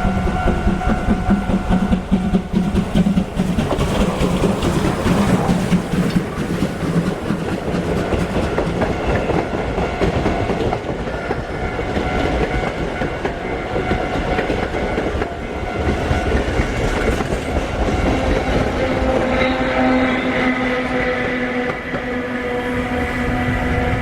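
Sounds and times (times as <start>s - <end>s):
train wheels clattering over rails: 0.0s - 24.0s.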